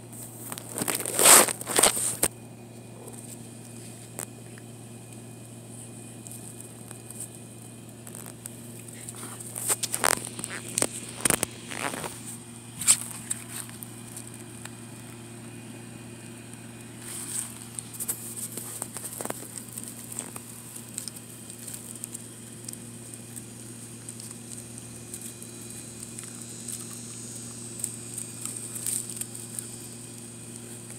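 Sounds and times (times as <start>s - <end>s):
steady low hum: 0.0s - 30.9s
dog chewing crackling twigs: 0.1s - 30.9s.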